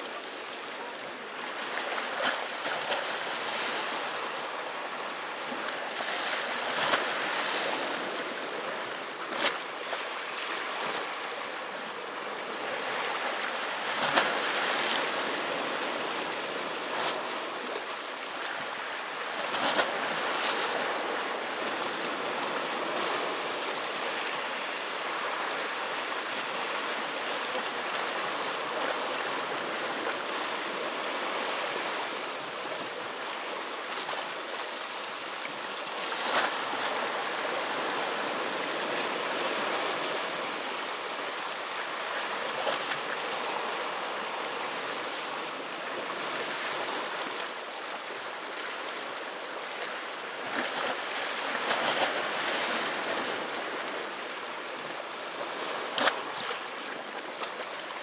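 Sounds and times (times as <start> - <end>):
waves washing against shore: 0.0 - 58.0.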